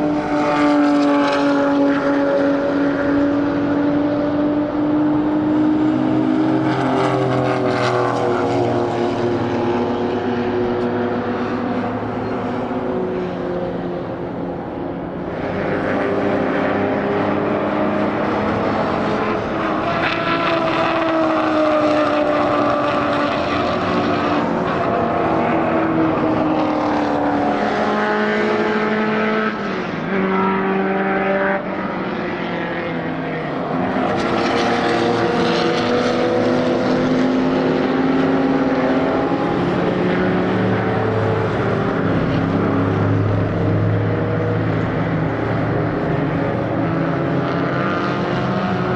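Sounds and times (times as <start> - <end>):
racing car engines passing: 0.0 - 48.9.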